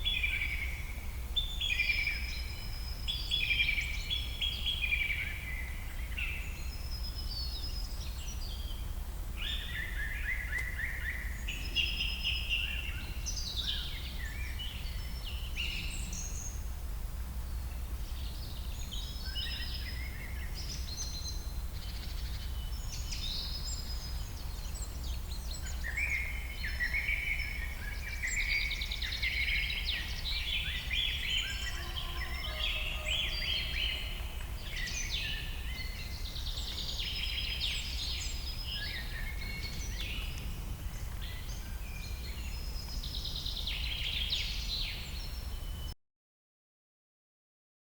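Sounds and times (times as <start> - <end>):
birds singing and chirping: 0.0 - 16.7, 17.5 - 45.9.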